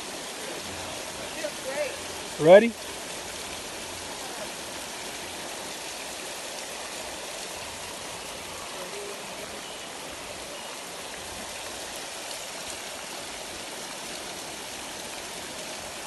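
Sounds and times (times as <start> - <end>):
waterfall splashing into pool: 0.0 - 16.0.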